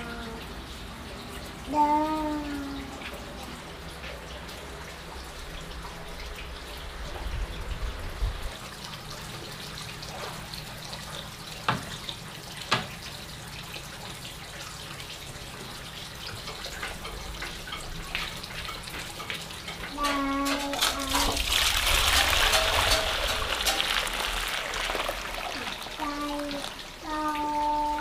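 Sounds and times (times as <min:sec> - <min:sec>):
water running and trickling: 0:00.0 - 0:28.0.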